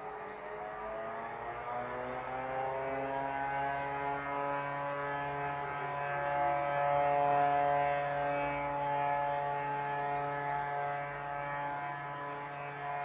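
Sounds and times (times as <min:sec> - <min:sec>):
birds chirping faintly: 0:00.0 - 0:13.0
sirens wailing: 0:00.0 - 0:13.0.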